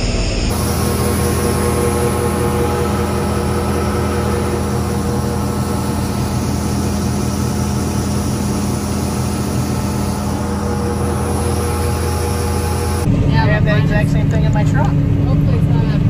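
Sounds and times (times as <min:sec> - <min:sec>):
combine harvester engine droning: 0:00.0 - 0:16.0.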